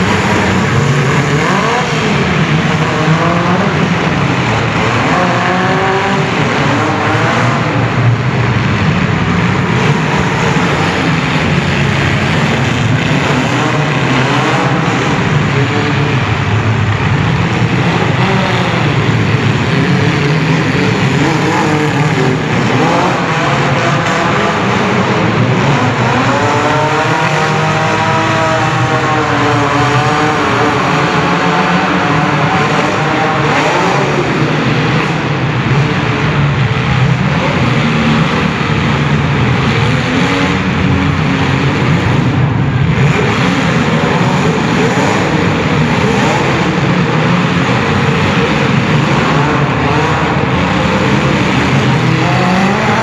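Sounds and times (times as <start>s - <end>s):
car engines revving hard: 0.0s - 53.0s.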